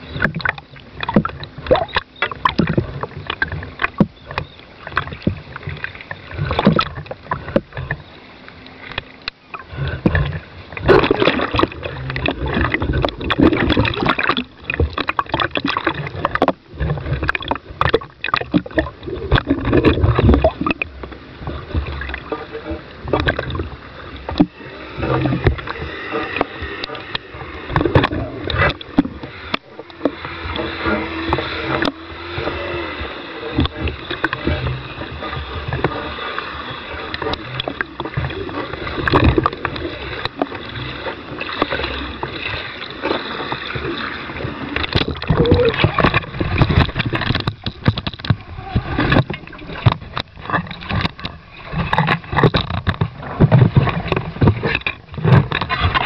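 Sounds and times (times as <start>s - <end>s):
water noise: 0.0s - 56.0s.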